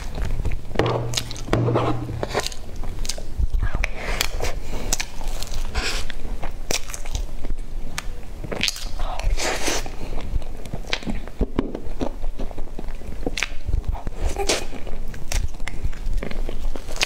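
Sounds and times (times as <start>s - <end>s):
wet smacking and chewing: 0.0s - 1.5s, 2.1s - 17.0s.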